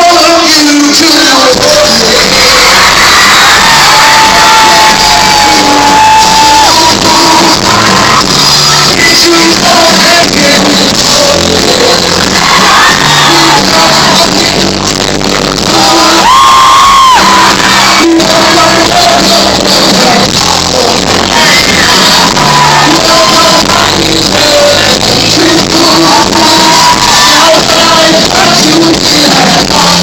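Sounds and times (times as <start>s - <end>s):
audience shouting and singing along: 0.0s - 30.0s
high held shout: 0.0s - 30.0s
live band with singing: 0.0s - 30.0s.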